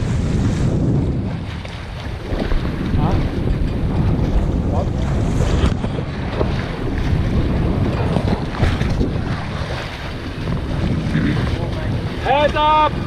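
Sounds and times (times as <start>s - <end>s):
water splashing along hull: 0.0s - 13.0s
wind buffeting microphone: 0.0s - 13.0s.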